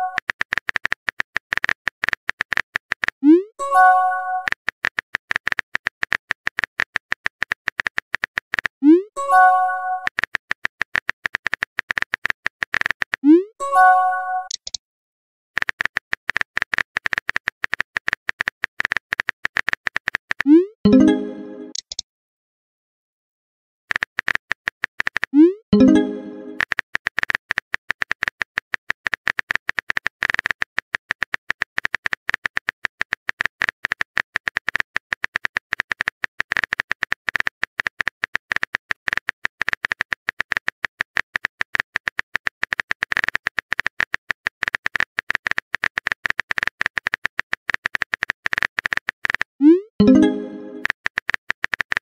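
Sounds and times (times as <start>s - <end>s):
keyboard typing clicks: 0.0s - 14.8s, 15.6s - 22.0s, 23.9s - 52.0s.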